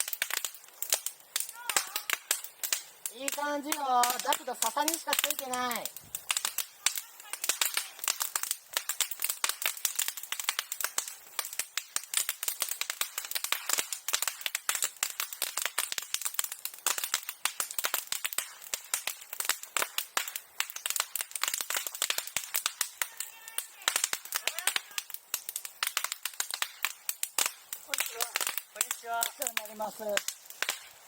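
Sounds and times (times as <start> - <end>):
bonfire crackling and popping: 0.0 - 31.0.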